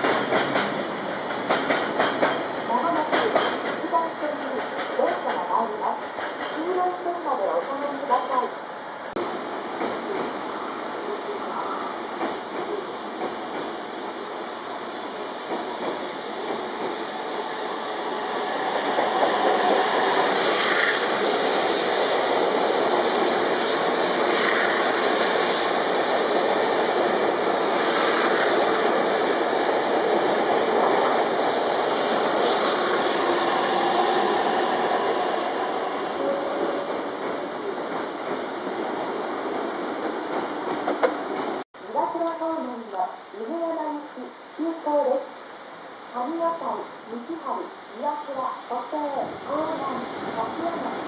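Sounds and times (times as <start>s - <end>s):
electric train rushing past: 0.0s - 41.6s.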